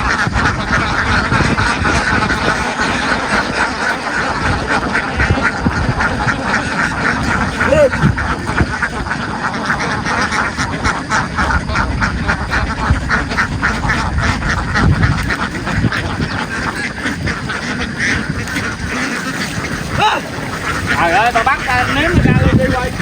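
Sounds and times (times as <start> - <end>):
ducks quacking: 0.0 - 23.0.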